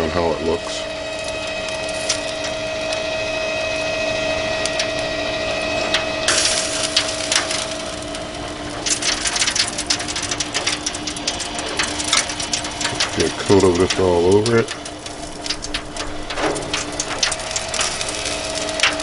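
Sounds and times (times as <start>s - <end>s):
gas grill hissing: 0.0s - 19.0s
rotisserie motor humming: 0.6s - 19.0s
meat sizzling and popping: 0.9s - 19.0s.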